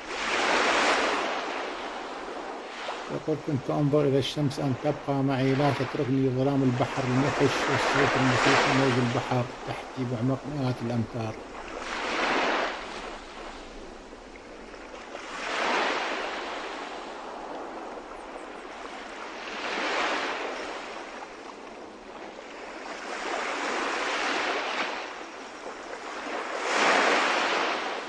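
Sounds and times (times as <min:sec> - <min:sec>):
ocean waves washing in: 0:00.0 - 0:28.0.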